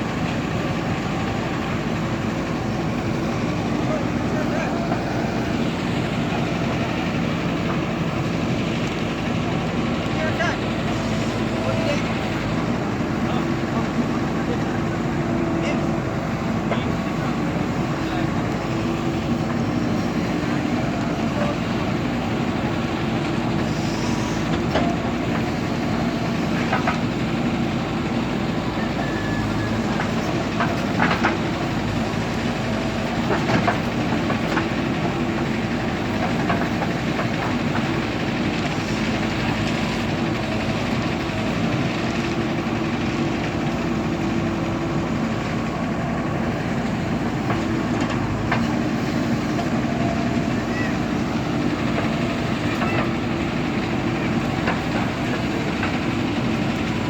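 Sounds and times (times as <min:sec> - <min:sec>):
digger diesel engine running: 0:00.0 - 0:57.0.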